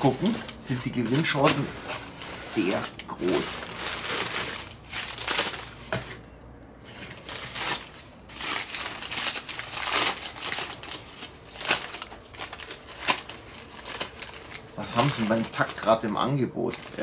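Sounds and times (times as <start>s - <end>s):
plastic wrappers crinkling: 0.0s - 6.2s, 6.8s - 17.0s.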